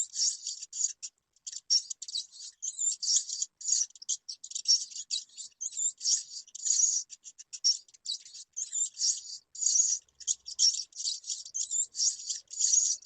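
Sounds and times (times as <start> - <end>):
rats squeaking: 0.0 - 13.0.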